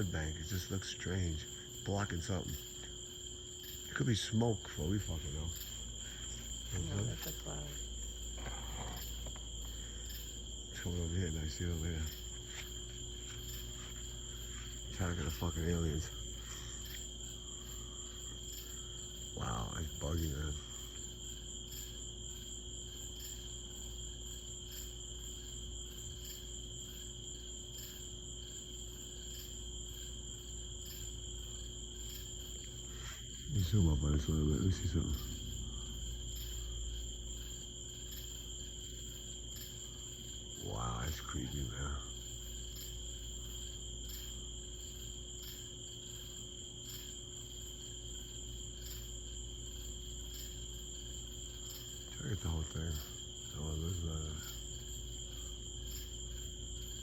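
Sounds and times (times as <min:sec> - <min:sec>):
crickets trilling: 0:00.0 - 0:57.0
low steady hum: 0:00.0 - 0:57.0
pulsing insect chirping: 0:00.0 - 0:57.0.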